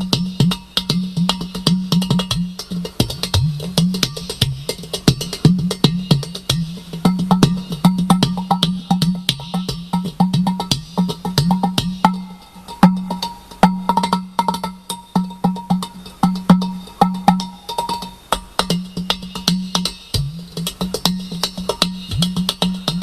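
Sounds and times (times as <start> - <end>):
deep ringing drum bass tone: 0.0 - 23.0.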